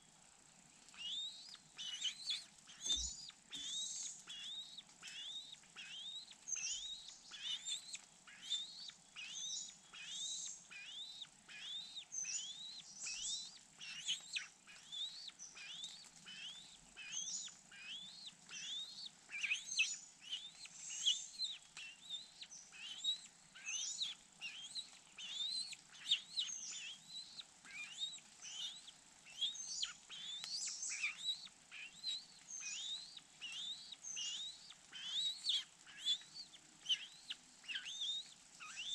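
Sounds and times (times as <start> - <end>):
bird chirping: 0.9 - 38.9.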